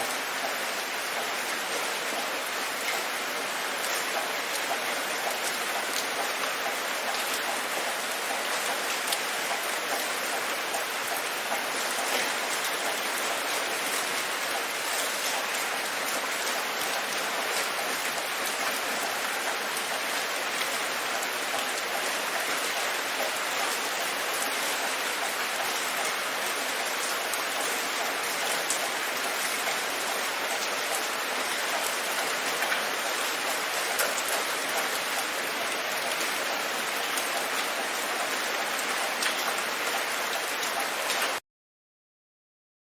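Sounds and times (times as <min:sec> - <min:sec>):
steady rain hiss: 0:00.0 - 0:41.4
raindrops tapping: 0:03.8 - 0:38.3.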